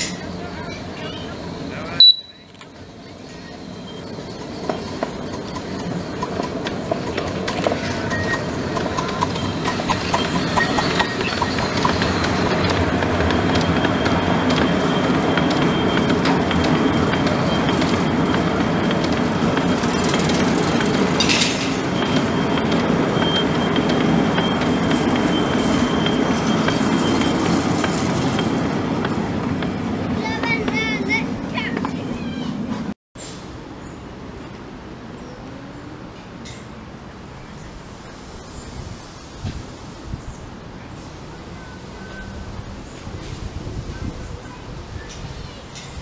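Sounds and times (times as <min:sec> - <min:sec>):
miniature train rumbling past: 0:00.0 - 0:46.0.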